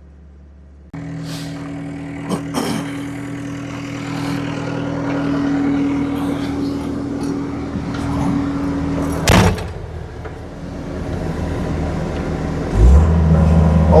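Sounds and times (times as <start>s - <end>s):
low hum: 0.0s - 14.0s
skid steer engine running: 0.0s - 14.0s.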